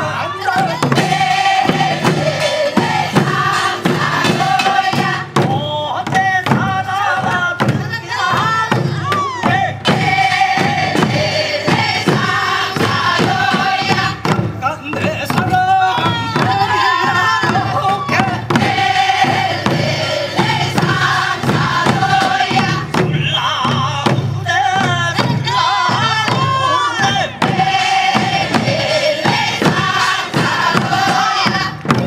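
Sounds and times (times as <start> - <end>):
barrel drum beat: 0.0 - 32.0
group singing field song: 0.0 - 32.0.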